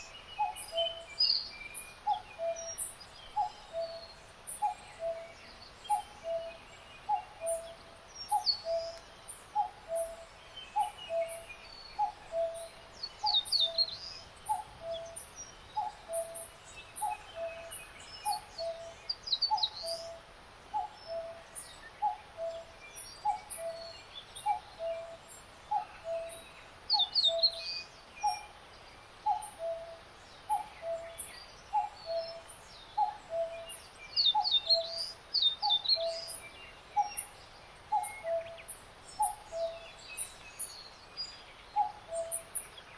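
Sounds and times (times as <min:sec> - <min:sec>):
high falling birdsong: 0:00.0 - 0:42.9.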